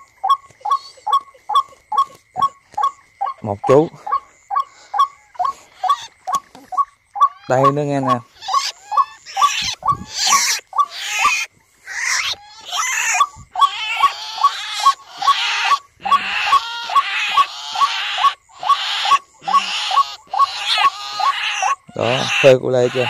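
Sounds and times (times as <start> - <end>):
harsh raspy bird calls: 0.0 - 23.0
recorded bird chirp: 0.0 - 23.0.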